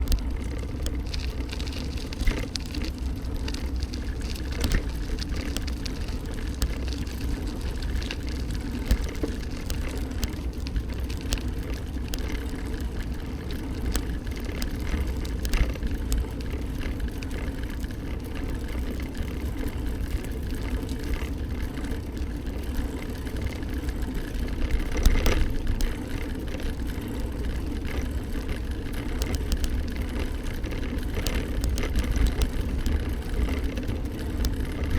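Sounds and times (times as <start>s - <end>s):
bike rumbling in motion: 0.0s - 34.9s.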